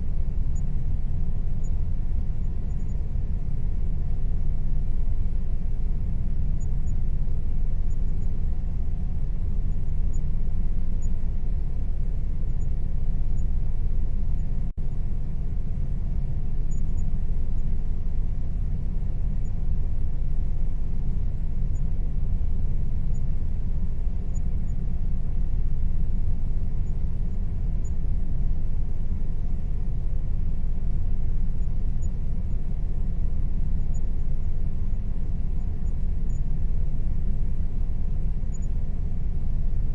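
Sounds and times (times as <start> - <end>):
faint steady tone: 0.0 - 39.9.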